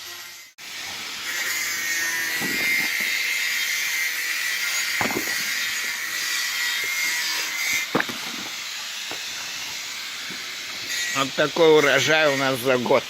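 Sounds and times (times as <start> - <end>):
saw cutting through metal: 0.0 - 13.0.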